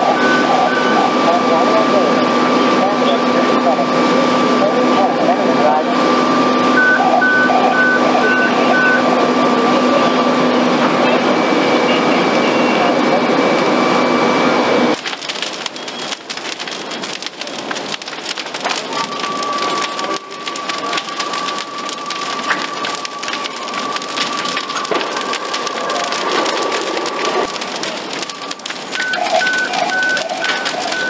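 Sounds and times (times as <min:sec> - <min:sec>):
burning timber crackling: 0:00.0 - 0:31.0.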